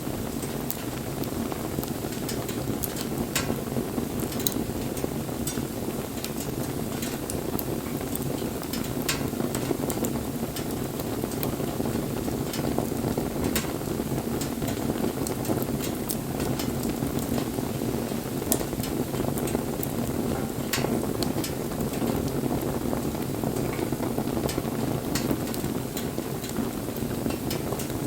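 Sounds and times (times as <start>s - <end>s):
crackles and pops of burning wood: 0.0s - 28.0s
wood fire burning: 0.0s - 28.0s.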